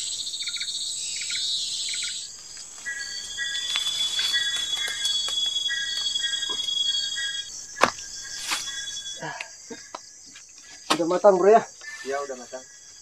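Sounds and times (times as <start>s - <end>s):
crickets calling: 0.0s - 13.0s.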